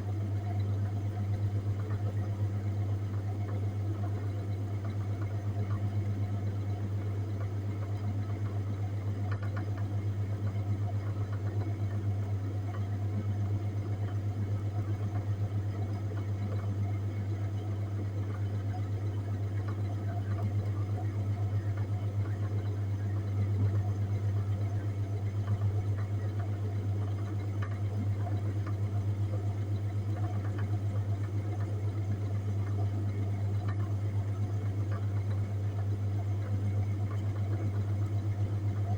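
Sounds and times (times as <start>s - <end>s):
refrigerated display case humming: 0.0s - 38.9s.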